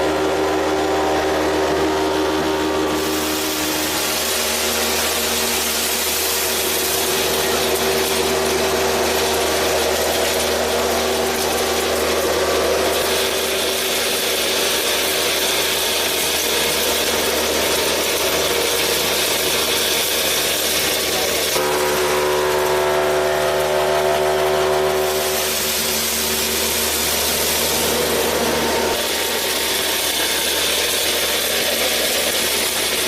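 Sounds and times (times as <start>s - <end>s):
small electric motor humming: 0.0s - 33.0s.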